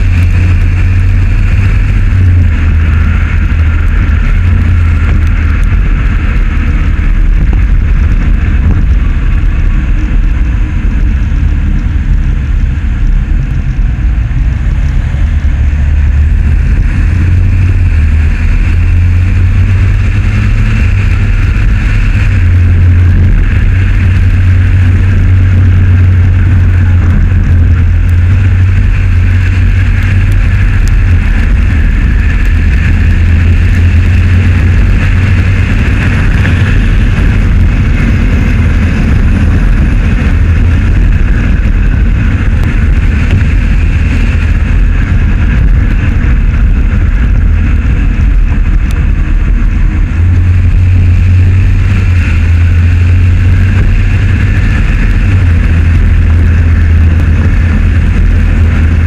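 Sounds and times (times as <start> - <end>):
vehicle road and wind noise: 0.0 - 59.0.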